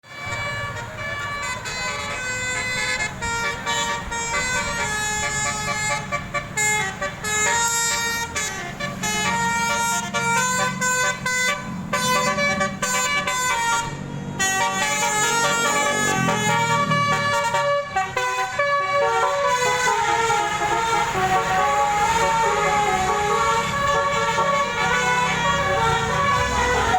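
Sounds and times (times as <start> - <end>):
musical bus air horn melody: 0.0 - 26.9.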